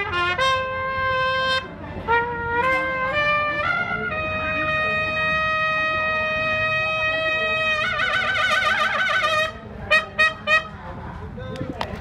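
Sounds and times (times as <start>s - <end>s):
solo trumpet: 0.0s - 10.8s.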